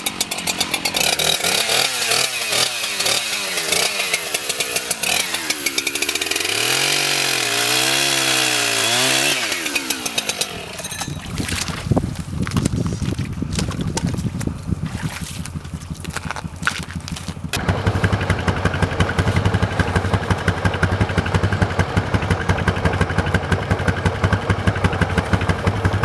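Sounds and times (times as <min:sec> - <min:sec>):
chainsaw cutting ice: 0:00.0 - 0:26.0.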